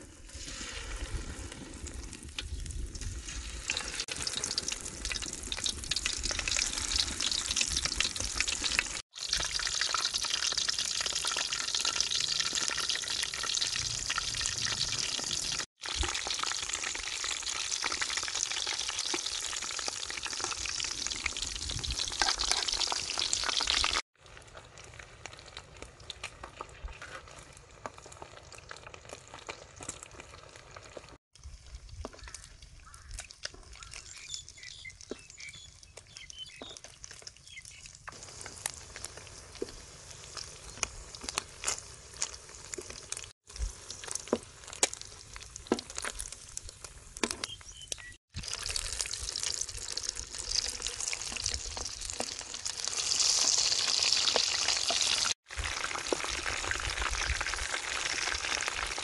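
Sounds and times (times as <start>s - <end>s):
shrimp deep-frying in oil: 0.0s - 59.0s
oil pops and crackles: 1.5s - 13.7s, 15.8s - 59.0s.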